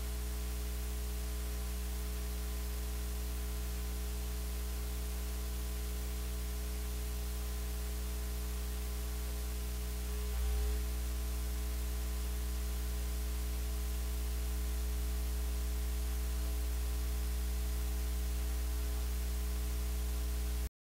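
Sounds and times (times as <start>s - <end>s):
electrical mains hum: 0.0s - 20.7s.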